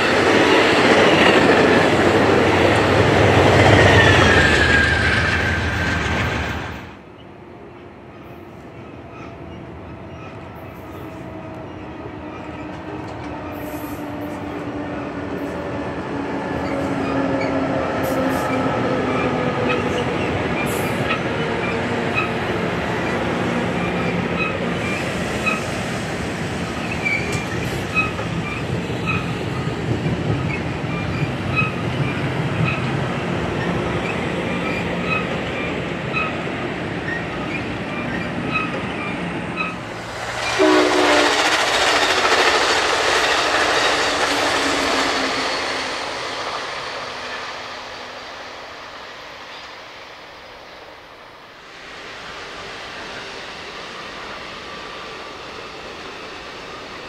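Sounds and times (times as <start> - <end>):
train passing with drone: 0.0 - 57.0.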